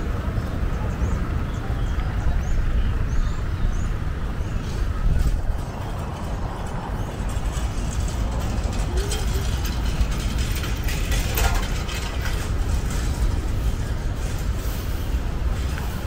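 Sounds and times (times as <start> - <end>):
steady low rumble: 0.0 - 16.0
faint human voices: 0.1 - 16.0.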